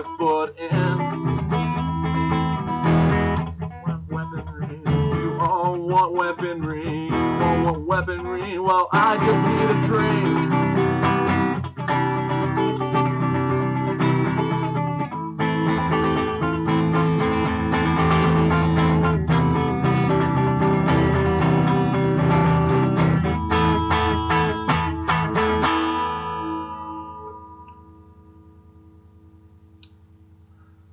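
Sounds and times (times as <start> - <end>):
guitar strumming chords: 0.0 - 29.6.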